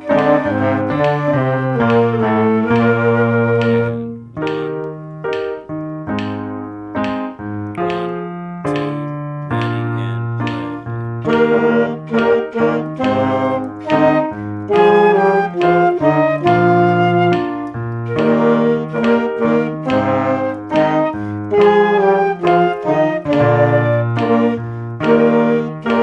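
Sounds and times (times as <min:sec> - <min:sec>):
brass: 0:00.0 - 0:04.9, 0:08.1 - 0:26.0
concert band music with piano: 0:00.0 - 0:26.0.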